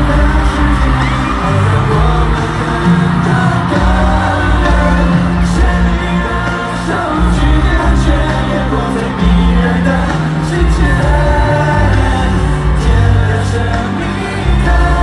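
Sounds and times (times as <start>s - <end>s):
audience yelling and cheering: 0.0s - 15.0s
live band playing pop music: 0.0s - 15.0s.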